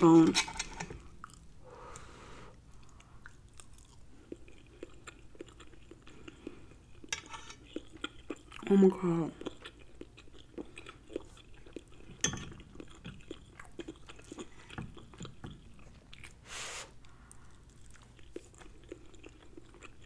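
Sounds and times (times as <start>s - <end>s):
chewing: 0.9s - 2.1s, 2.7s - 20.0s.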